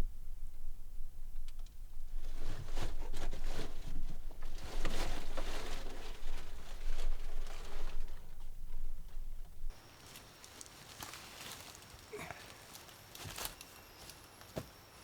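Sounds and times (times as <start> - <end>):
rustling and crackling: 0.0 - 14.8.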